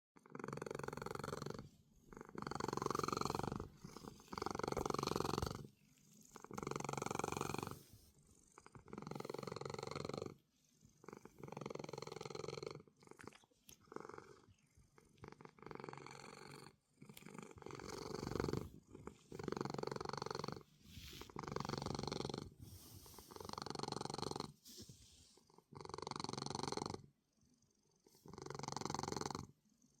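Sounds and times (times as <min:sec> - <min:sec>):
cat snoring: 0:00.2 - 0:13.1, 0:13.8 - 0:30.0.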